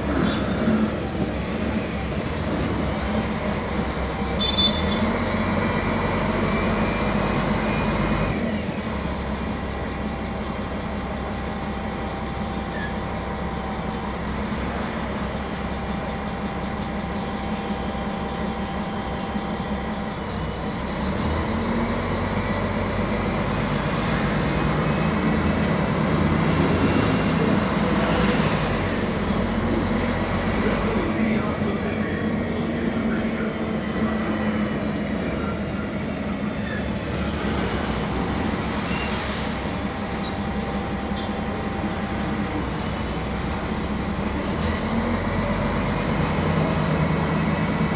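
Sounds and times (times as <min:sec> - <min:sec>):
bus diesel engine: 0:00.0 - 0:47.9.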